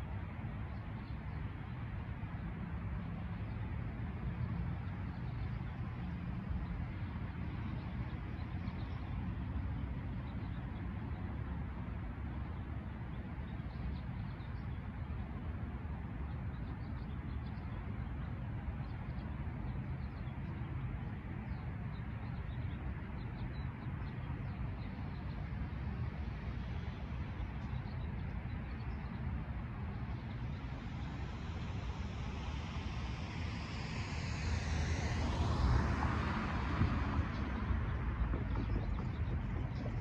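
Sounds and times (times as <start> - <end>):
low outdoor rumble: 0.0 - 40.0.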